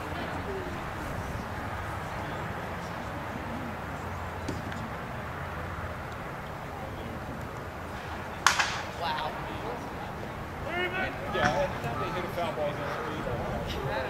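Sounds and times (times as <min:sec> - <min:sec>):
ballpark crowd background noise: 0:00.0 - 0:14.0
faint distant voices: 0:00.0 - 0:14.0.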